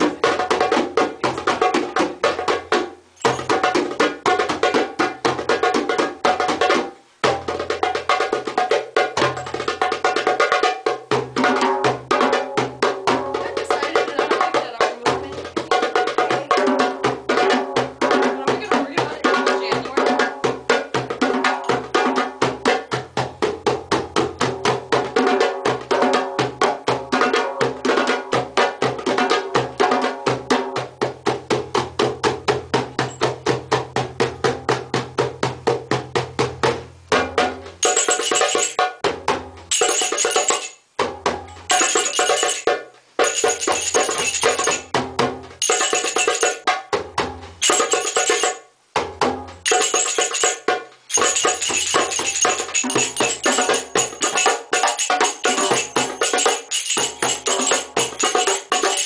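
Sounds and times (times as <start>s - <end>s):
hand drums playing fast rhythm: 0.0s - 59.0s
high jingling percussion: 0.0s - 59.0s.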